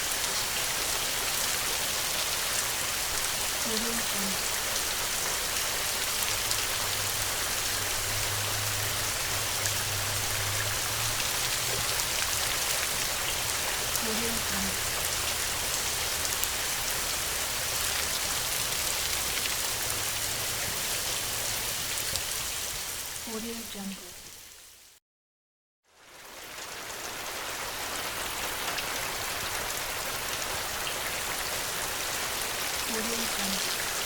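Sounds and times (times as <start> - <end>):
heavy rain falling: 0.0 - 24.8, 26.0 - 34.0.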